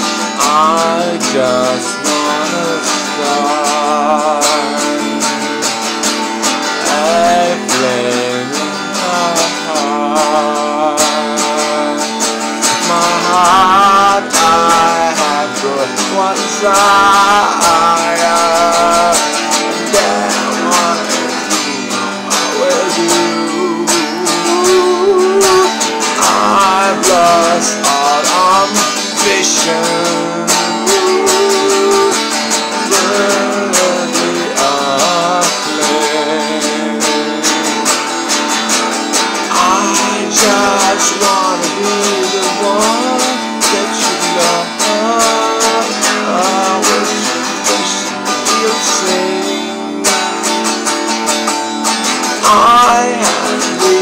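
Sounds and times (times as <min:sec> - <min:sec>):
guitar strumming: 0:00.0 - 0:54.0
man singing: 0:00.0 - 0:54.0.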